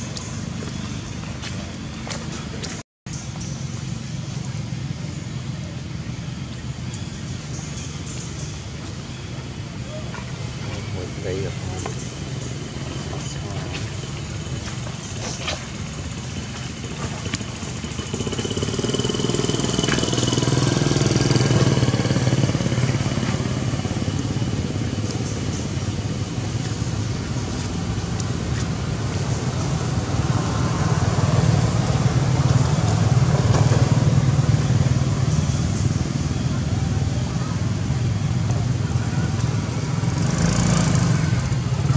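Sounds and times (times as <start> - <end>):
vehicle engine rumbling: 0.0 - 41.9.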